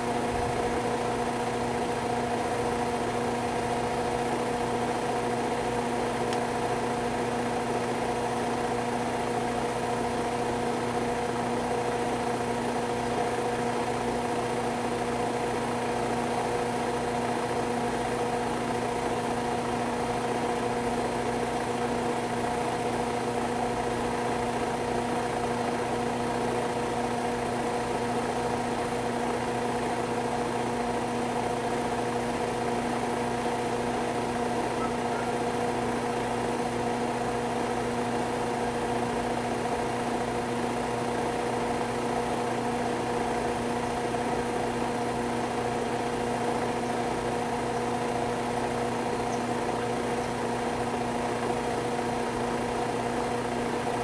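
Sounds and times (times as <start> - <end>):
machine hum: 0.0 - 54.0.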